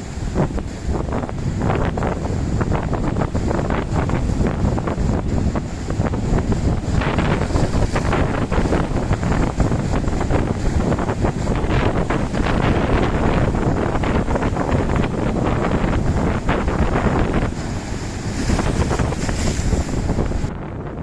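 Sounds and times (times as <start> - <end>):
sea waves breaking: 0.0 - 21.0
wind buffeting microphone: 0.0 - 21.0.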